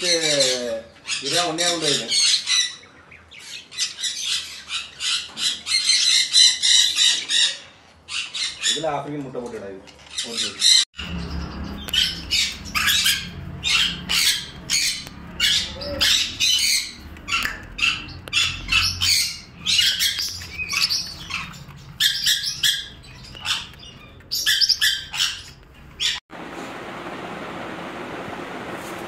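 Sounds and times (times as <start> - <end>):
parrotlets chirping: 0.0 - 9.0, 10.0 - 26.2.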